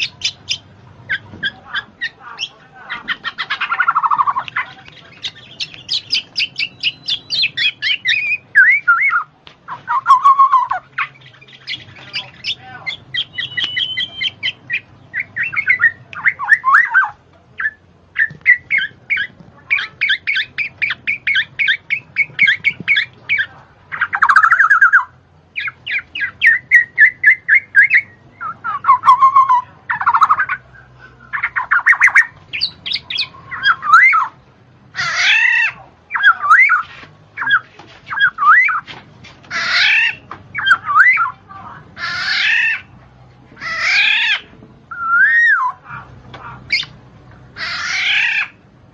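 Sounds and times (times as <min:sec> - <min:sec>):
bird chattering and squawking: 0:00.0 - 0:43.0, 0:43.6 - 0:48.7.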